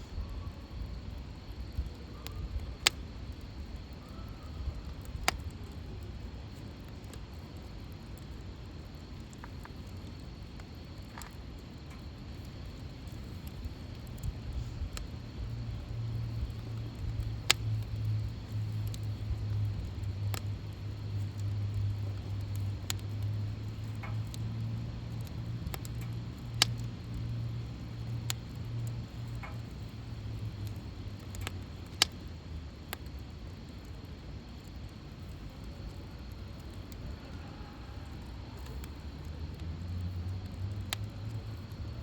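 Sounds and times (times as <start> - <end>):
low steady hum: 0.0 - 42.0
wood fire crackling: 0.0 - 42.0.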